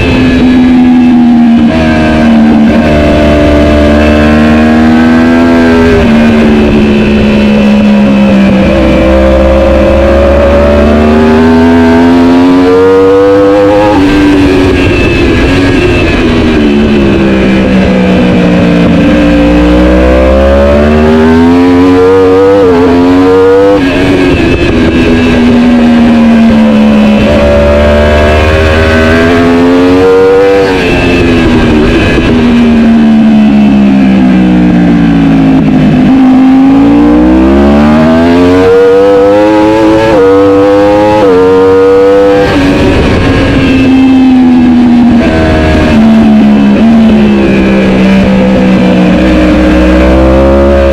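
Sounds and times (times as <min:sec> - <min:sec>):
motorcycle engine revving high: 0:00.0 - 0:50.9.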